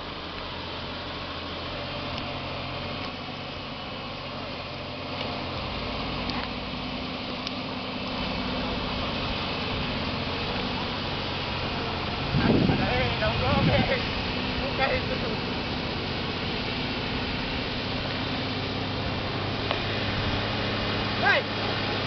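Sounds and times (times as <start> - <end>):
truck diesel engine droning: 0.0 - 22.0.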